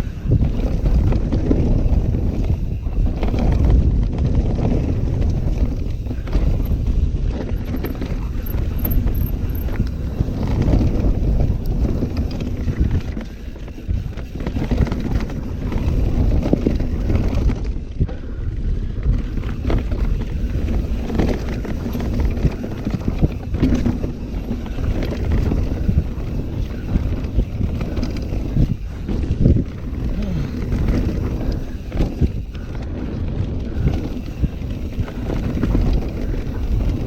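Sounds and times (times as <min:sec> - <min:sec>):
bike knocking and rattling: 0:00.0 - 0:37.0
tyres rumbling on dirt: 0:00.0 - 0:37.0
wind buffeting microphone: 0:00.0 - 0:37.0.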